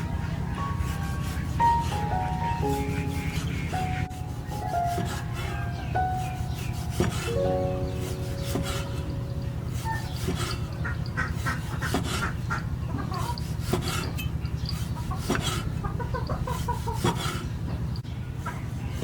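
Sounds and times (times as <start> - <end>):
chickens clucking: 0.0 - 19.0
steady low hum: 0.0 - 19.0.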